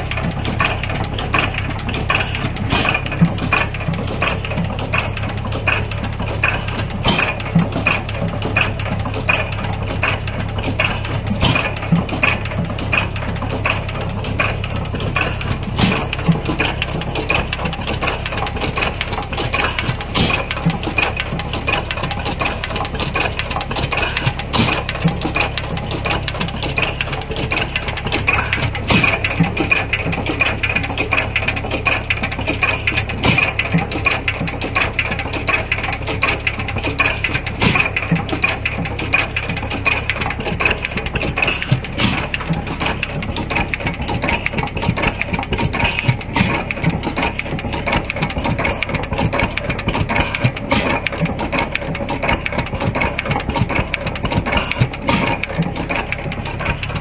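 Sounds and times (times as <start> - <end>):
heavy engine knock: 0.0 - 57.0
stationary engine clattering: 0.0 - 57.0.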